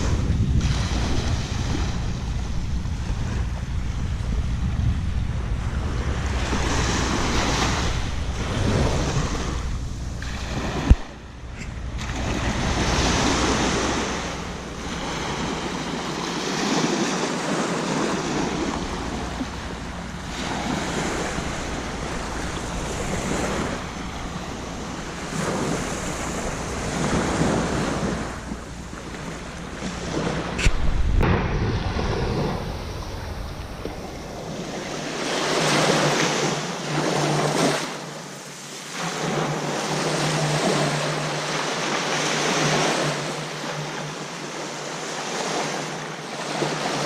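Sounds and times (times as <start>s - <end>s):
sea waves breaking on beach: 0.0s - 47.0s
wind rumbling on microphone: 0.0s - 47.0s.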